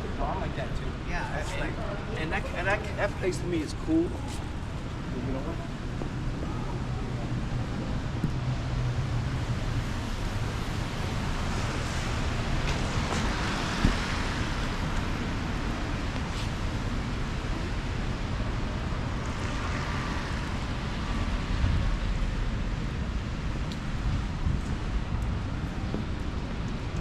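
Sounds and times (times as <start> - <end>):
wind rumble on microphone: 3.8 - 27.0.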